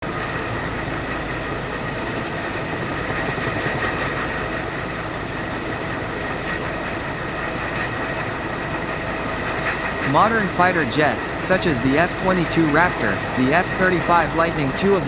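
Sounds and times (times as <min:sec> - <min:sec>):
jet engine running: 0:00.0 - 0:15.0.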